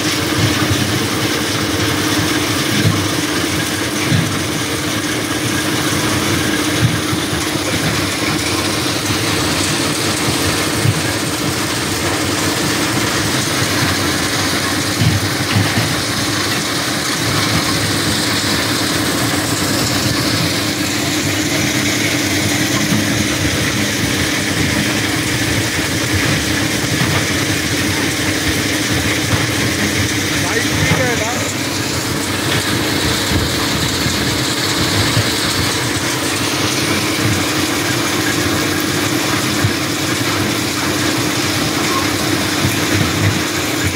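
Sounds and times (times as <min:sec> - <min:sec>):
crushing machinery hum: 0:00.0 - 0:43.9
machinery knocking and clatter: 0:00.0 - 0:43.9.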